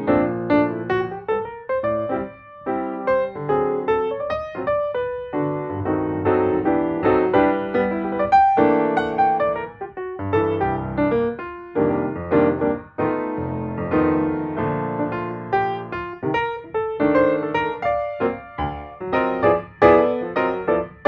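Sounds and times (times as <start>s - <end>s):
gentle solo piano melody: 0.0s - 21.0s.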